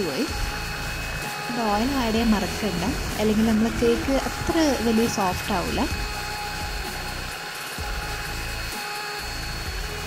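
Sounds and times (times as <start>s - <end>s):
electric hand mixer whisking: 0.0s - 10.0s.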